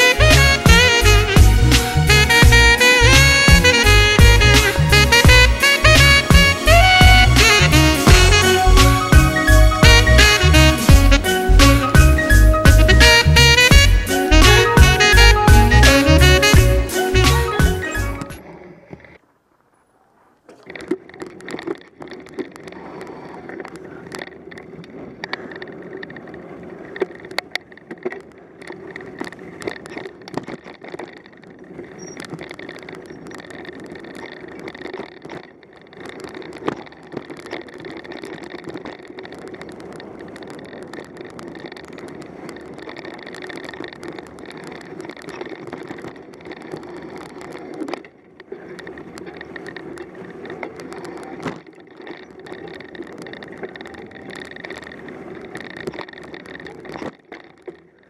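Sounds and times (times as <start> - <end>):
bike rattling over bumps: 0.0 - 58.0
bike tyres rolling on dirt: 0.0 - 58.0.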